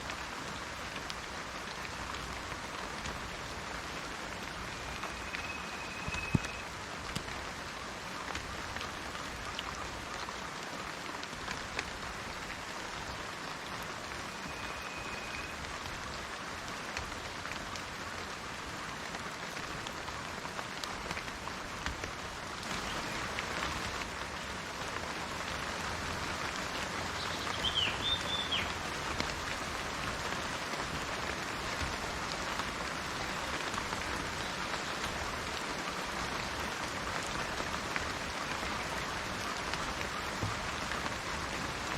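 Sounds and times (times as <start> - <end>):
rain on foliage: 0.0 - 41.9.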